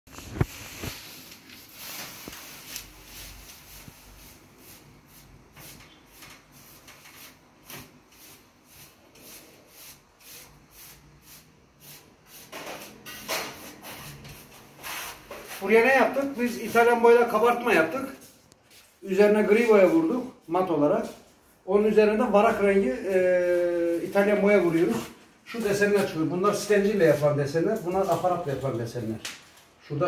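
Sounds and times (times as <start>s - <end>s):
sponge scuffing on plaster wall: 0.1s - 28.5s.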